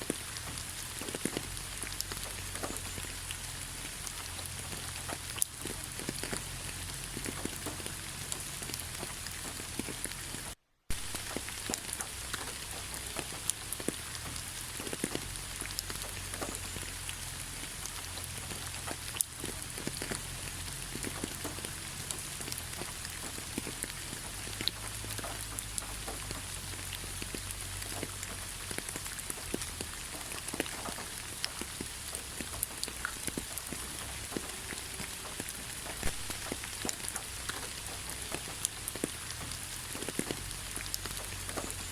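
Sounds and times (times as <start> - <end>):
rain falling on road: 0.0 - 41.9
raindrops ticking: 0.0 - 41.9.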